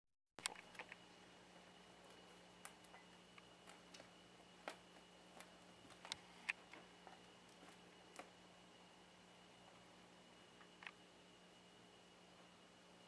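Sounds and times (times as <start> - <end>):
faint steady hum: 0.4 - 13.0.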